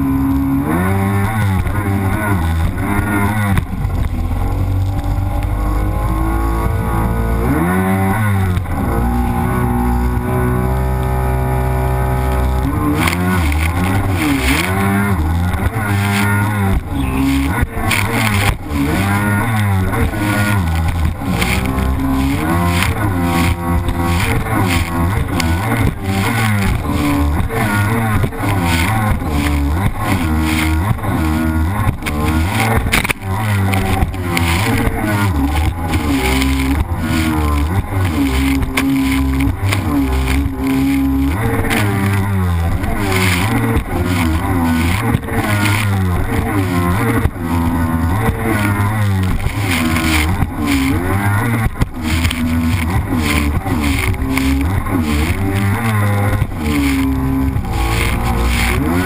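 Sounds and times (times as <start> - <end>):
jet ski engine running hard: 0.0 - 59.0
water spray rushing: 10.8 - 59.0.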